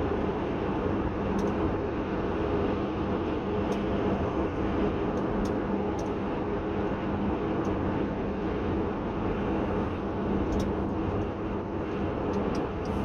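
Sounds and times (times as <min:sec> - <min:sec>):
engine hum: 0:00.0 - 0:13.0
road and tyre noise: 0:00.0 - 0:13.0.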